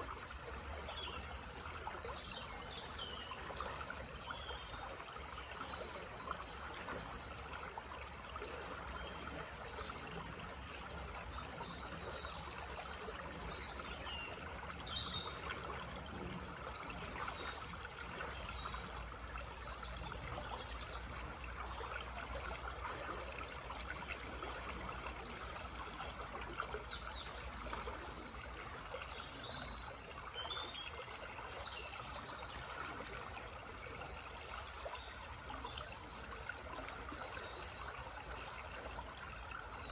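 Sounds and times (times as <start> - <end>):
songbirds chirping: 0.0 - 39.9
stream trickling over stones: 0.0 - 39.9.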